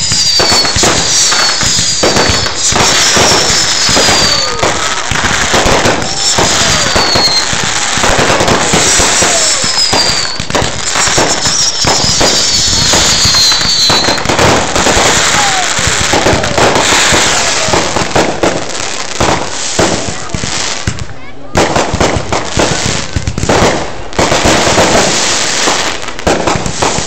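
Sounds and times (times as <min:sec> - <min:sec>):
falling firework whistles: 0:00.0 - 0:20.4, 0:22.3 - 0:27.0
fireworks bangs and crackles: 0:00.0 - 0:27.0.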